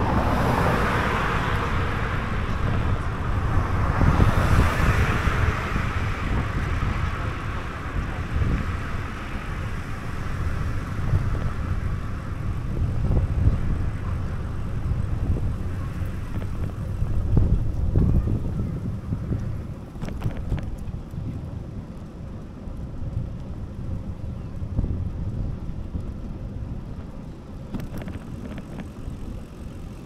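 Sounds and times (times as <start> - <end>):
low road rumble: 0.0 - 30.0
wind buffeting microphone: 0.0 - 30.0.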